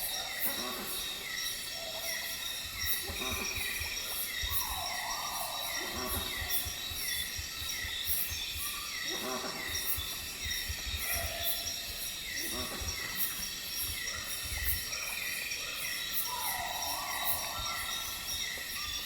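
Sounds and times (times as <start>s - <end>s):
insects chirping and buzzing: 0.0s - 19.0s.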